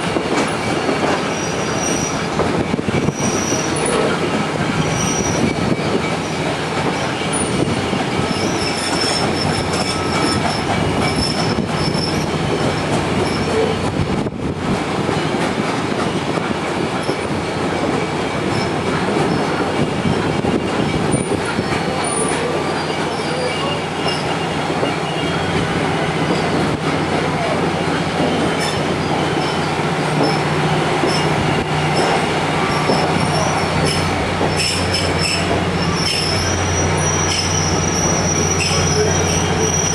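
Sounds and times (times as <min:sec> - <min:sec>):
train rumbling on rails: 0:00.0 - 0:39.9
steel wheels squealing: 0:00.5 - 0:13.8, 0:18.2 - 0:26.7, 0:27.3 - 0:39.9.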